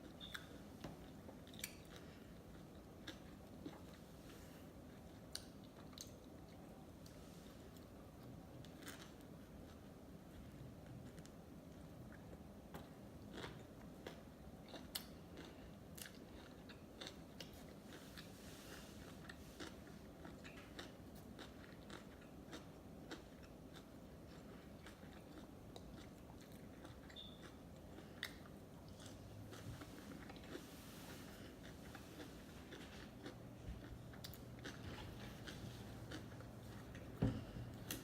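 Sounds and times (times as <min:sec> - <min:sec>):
chewing with mouth clicks: 0:00.0 - 0:38.0.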